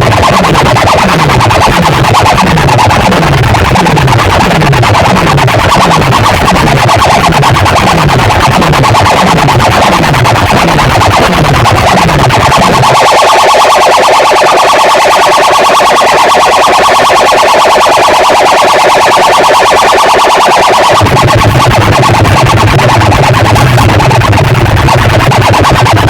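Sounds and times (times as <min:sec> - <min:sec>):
pulsing deep bass: 0:00.0 - 0:14.9, 0:15.6 - 0:26.0
fast-pulsing buzzy tone: 0:00.0 - 0:26.0.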